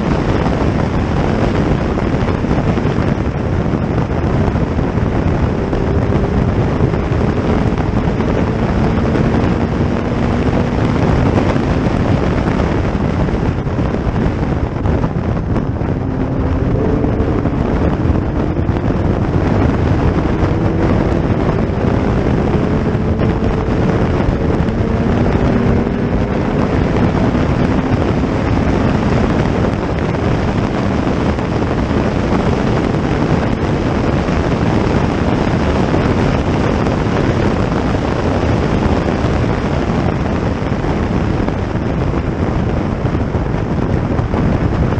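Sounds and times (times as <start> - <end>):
racing car engines droning: 0.0 - 44.9
wind buffeting microphone: 0.0 - 44.9.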